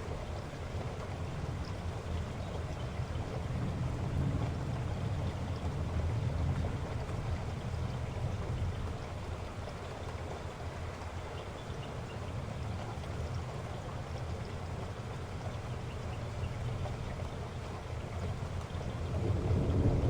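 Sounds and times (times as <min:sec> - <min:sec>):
heavy rain downpour: 0:00.0 - 0:20.0.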